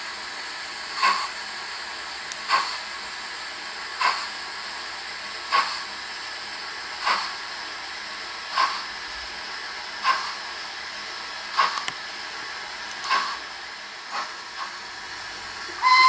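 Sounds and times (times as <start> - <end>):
steam hissing: 0.0 - 16.0
steam locomotive chuffs: 0.0 - 16.0.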